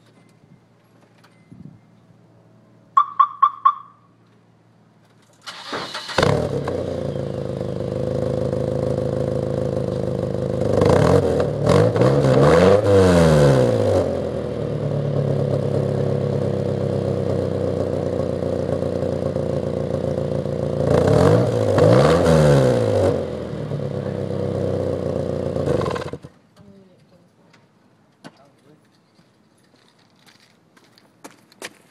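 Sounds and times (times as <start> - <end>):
car engine idling and revving: 0.8 - 26.5.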